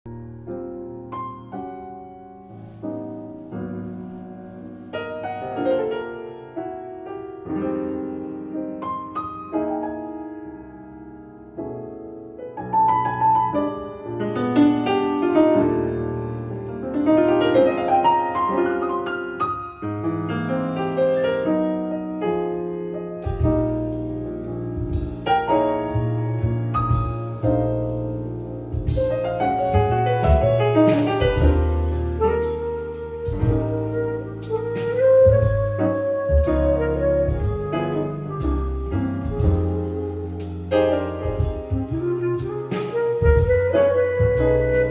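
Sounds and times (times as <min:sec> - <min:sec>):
solo piano music: 0:00.0 - 0:44.9
bass and other instruments: 0:02.2 - 0:44.9.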